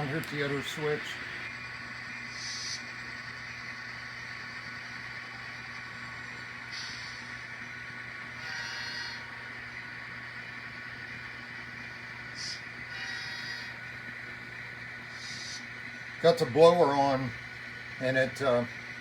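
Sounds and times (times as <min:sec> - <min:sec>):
furnace blower hum: 0:00.0 - 0:19.0.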